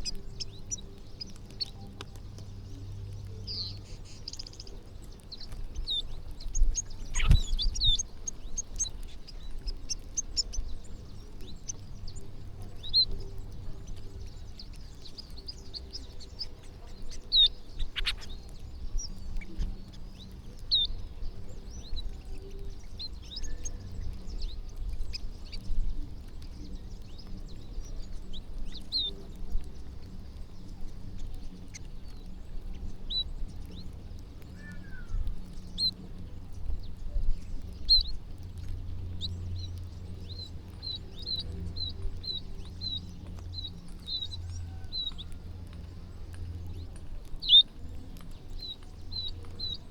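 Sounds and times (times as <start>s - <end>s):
low steady rumble: 0.0s - 49.9s
small birds chirping: 0.0s - 49.9s.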